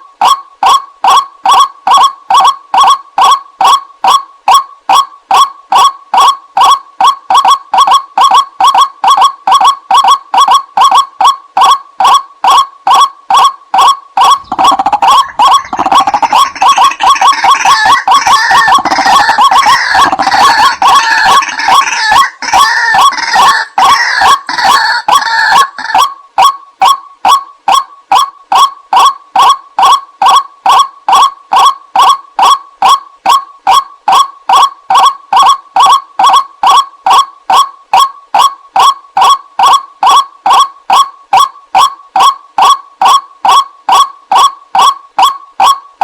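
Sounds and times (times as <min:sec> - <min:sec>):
waterhen calls: 0:08.2 - 0:45.8.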